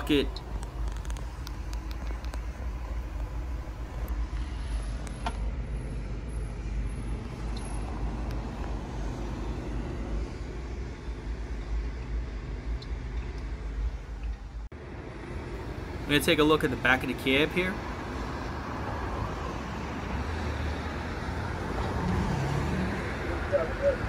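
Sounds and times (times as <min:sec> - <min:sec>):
diesel engine idling: 0:00.0 - 0:21.8.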